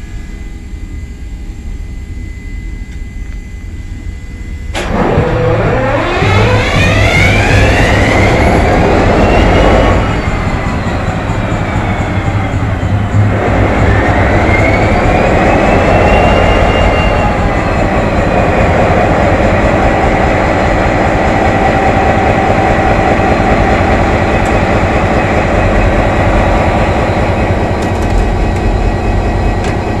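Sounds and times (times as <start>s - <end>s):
diesel locomotive engine running: 0.0s - 30.0s
high whine: 0.0s - 30.0s.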